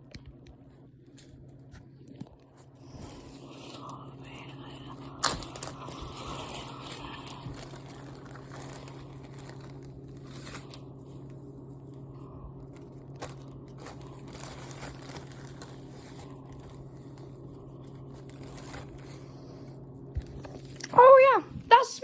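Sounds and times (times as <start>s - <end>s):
low hum: 0.0s - 21.7s
paper bag crinkling: 1.0s - 20.9s.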